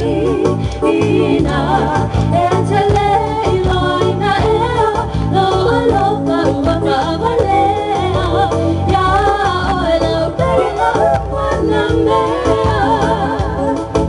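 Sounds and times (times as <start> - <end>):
steady bass line: 0.0 - 14.0
voices singing: 0.0 - 14.0.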